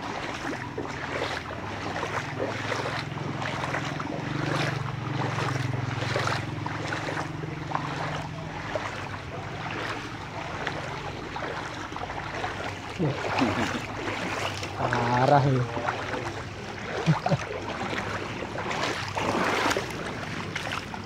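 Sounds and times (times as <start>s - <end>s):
people wading through water: 0.0s - 21.0s.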